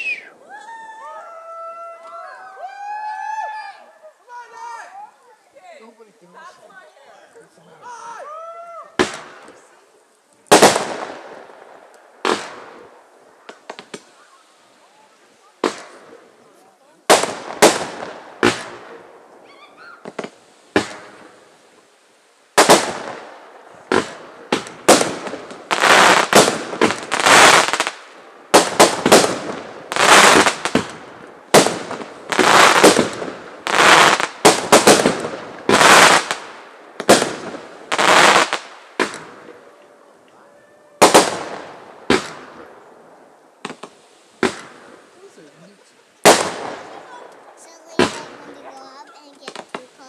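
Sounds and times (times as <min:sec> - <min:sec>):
fireworks bangs and crackling: 0:08.9 - 0:50.0.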